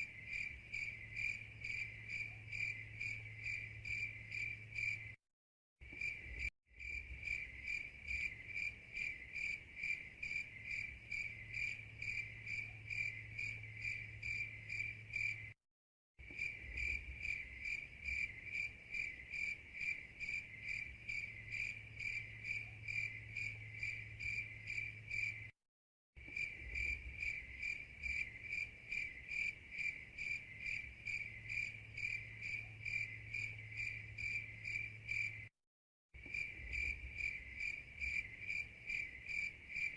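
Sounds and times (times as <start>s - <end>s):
cricket chirping: 0.0s - 5.2s, 5.8s - 15.6s, 16.2s - 25.6s, 26.2s - 35.5s, 36.2s - 39.9s.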